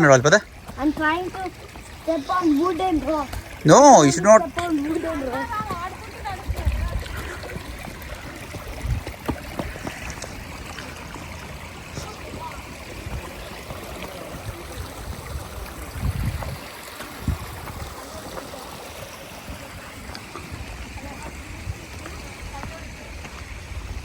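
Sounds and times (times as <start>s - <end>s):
creek running over rocks: 0.0s - 24.0s.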